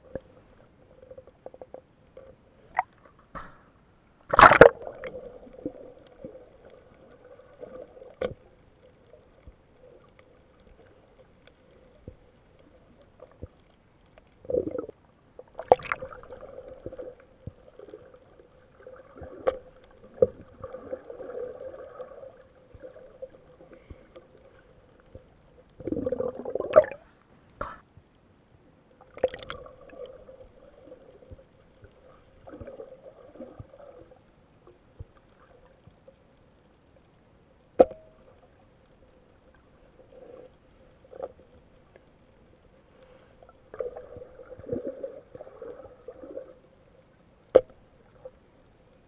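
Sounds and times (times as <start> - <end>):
underwater low hum: 0.0 - 49.0
water gurgling: 4.2 - 27.2, 28.9 - 36.2, 37.8 - 48.4.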